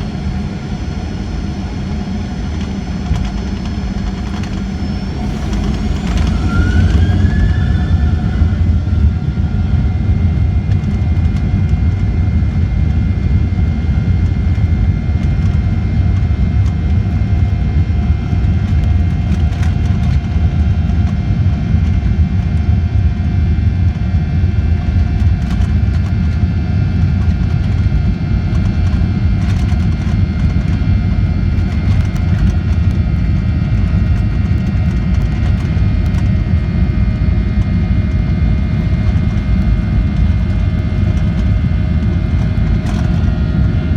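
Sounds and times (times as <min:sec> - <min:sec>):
jet engine rumble and whine: 0:00.0 - 0:43.9.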